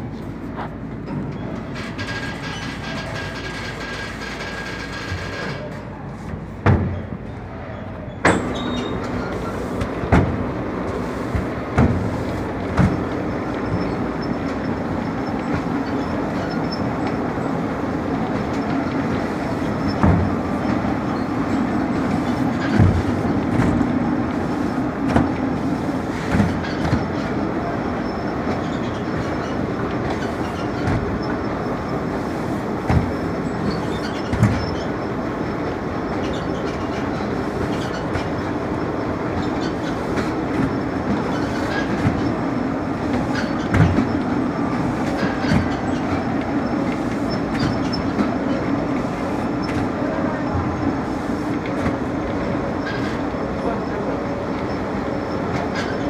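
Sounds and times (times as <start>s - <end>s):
steady rumbling with low hum: 0.0s - 56.0s.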